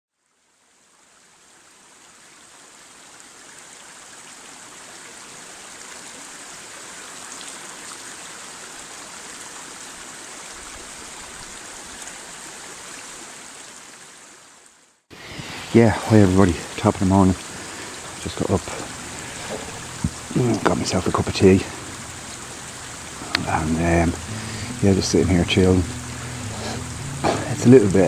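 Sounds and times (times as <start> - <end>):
stream water rushing: 0.4 - 28.0.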